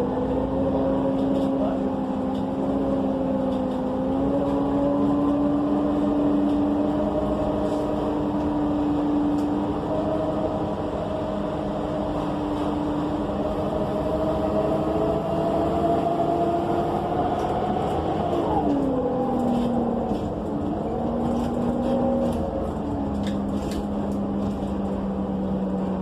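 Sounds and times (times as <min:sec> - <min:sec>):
bus engine humming and whining: 0:00.0 - 0:26.0.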